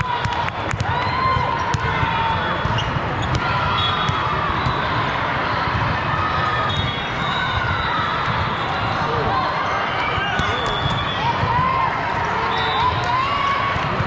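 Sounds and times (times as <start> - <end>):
hubbub of busy sports hall: 0.0 - 14.0.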